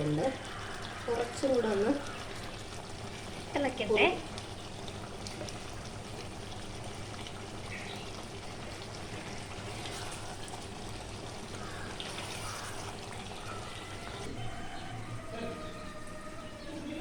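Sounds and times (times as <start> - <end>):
curry bubbling in a pot: 0.0 - 16.7.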